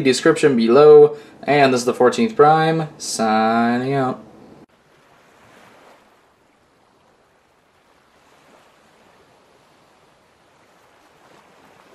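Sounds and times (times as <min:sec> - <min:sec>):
faint sea waves: 0:00.0 - 0:11.9.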